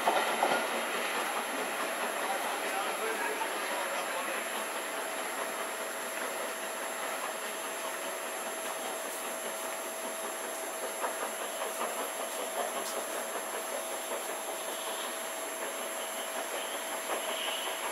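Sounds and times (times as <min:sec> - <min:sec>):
steam train rumble and hiss: 0:00.0 - 0:17.9.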